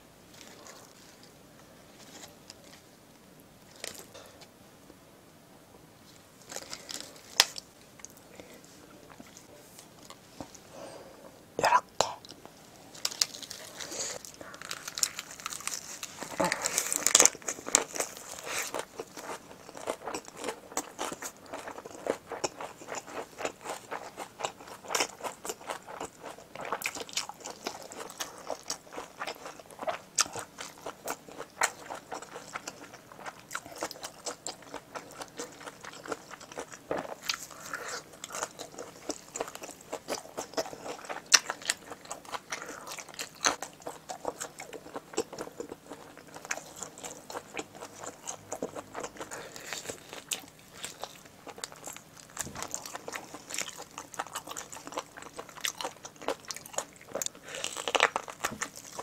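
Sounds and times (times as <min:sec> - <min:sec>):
chewing crisp lettuce: 0:06.4 - 0:10.6, 0:12.2 - 0:59.0.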